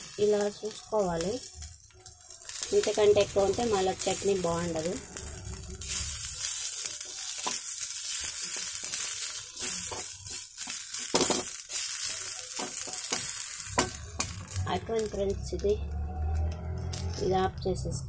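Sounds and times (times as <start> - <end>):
gourd sizzling in oil: 0.0 - 18.0.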